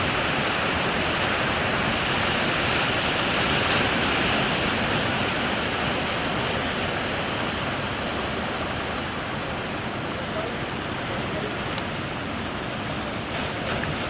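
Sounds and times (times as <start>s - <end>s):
surf breaking: 0.0s - 14.0s.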